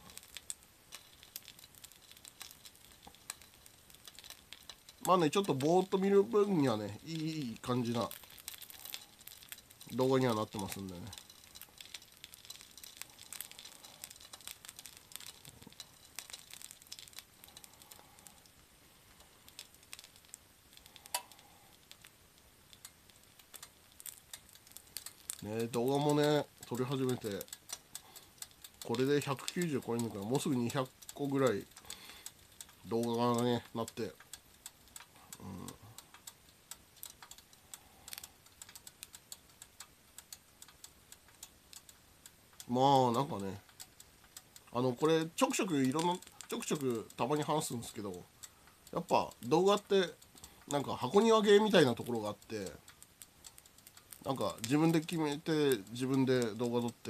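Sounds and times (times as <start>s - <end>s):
food sizzling faintly: 0.0s - 57.0s
small crackles and pops: 0.0s - 57.0s.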